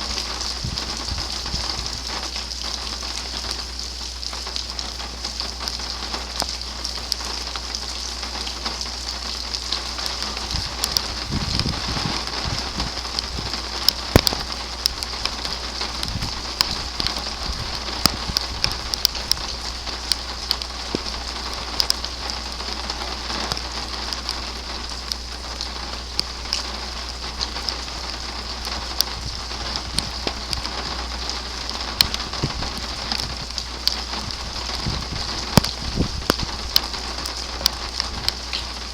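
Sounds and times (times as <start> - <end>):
heavy rain falling: 0.0 - 38.9
raindrops tapping a surface: 0.0 - 38.9.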